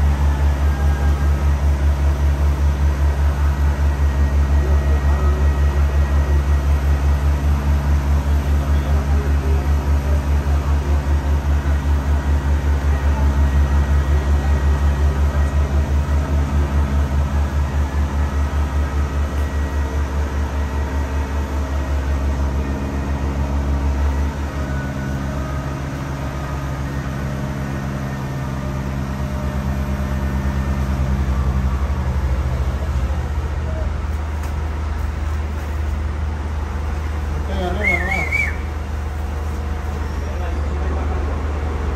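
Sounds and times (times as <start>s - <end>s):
crane engine humming: 0.0s - 41.9s.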